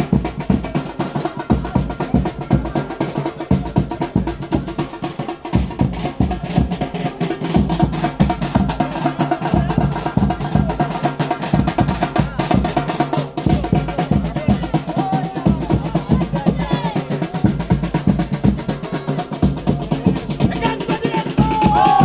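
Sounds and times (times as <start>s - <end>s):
fast drumming: 0.0s - 22.0s.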